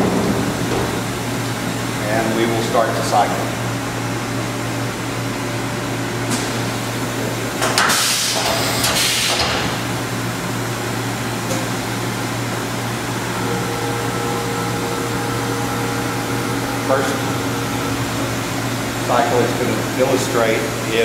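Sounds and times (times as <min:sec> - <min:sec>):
high machine whine: 0:00.0 - 0:21.0
machine hum: 0:00.0 - 0:21.0.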